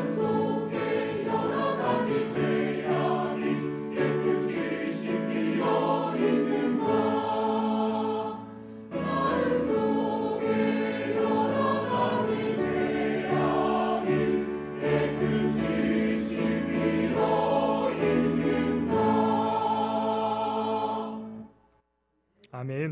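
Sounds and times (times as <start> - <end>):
choir singing a hymn: 0.0 - 21.5.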